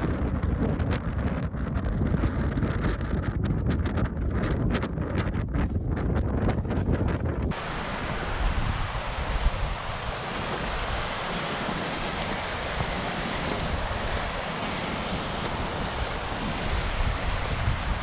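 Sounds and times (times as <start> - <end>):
strong wind rushing: 0.0 - 18.0
wind buffeting the microphone: 0.0 - 18.0.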